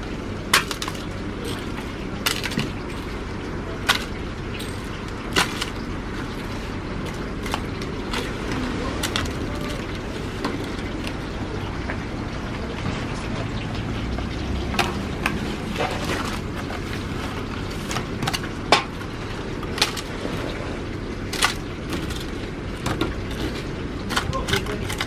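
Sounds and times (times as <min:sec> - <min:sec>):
low background noise: 0:00.0 - 0:25.0.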